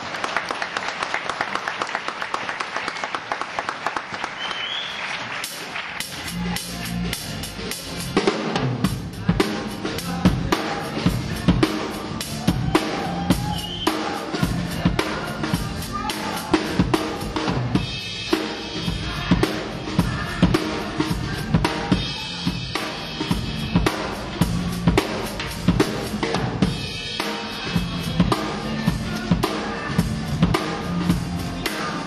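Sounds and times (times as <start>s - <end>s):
drum kit played with sticks: 5.2s - 32.0s.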